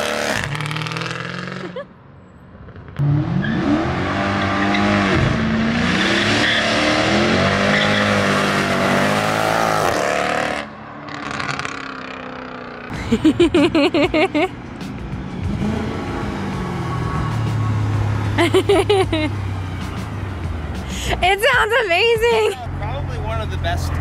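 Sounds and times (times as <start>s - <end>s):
car engine revving: 0.0s - 1.8s, 2.5s - 22.0s.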